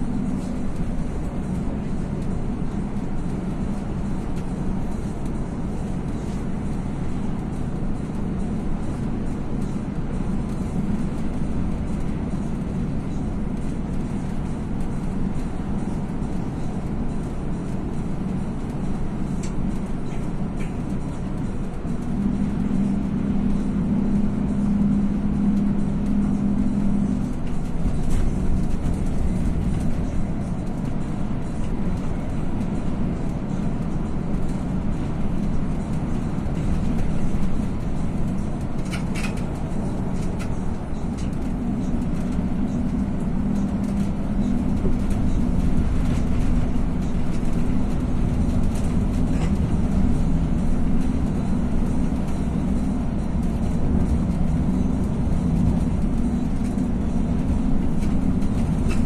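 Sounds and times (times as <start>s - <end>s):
bus engine drone: 0.0s - 59.0s
road rumble: 0.0s - 59.0s
steady hum: 0.0s - 59.0s.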